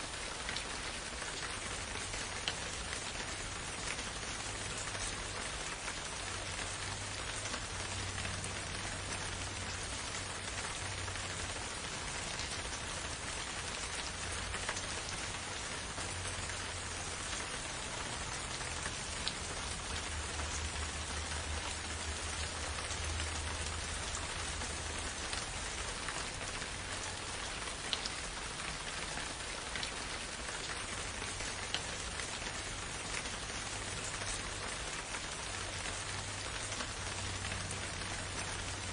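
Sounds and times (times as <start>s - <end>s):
steady rain hissing: 0.0s - 38.9s.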